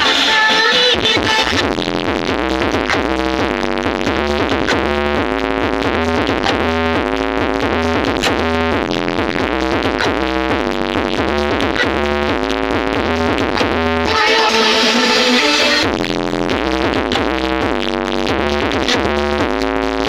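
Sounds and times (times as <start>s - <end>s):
electronic dance music: 0.0s - 20.0s.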